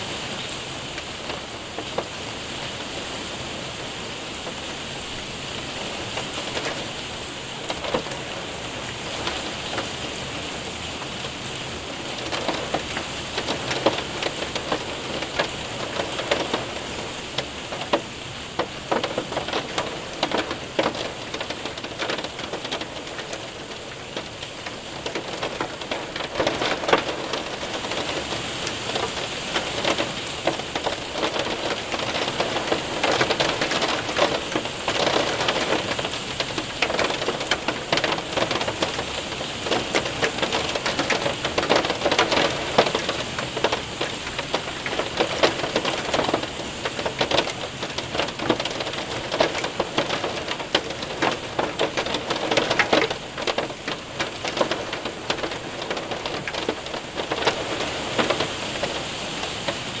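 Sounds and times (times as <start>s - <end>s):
hail hitting window and roof: 0.0s - 60.0s
rain hiss: 0.0s - 60.0s.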